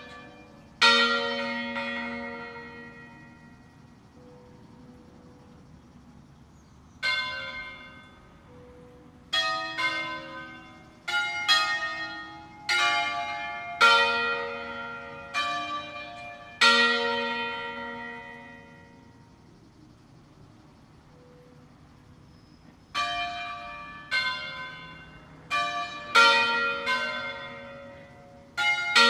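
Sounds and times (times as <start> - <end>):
church bells struck: 0.0 - 5.5, 7.0 - 19.2, 22.6 - 29.0.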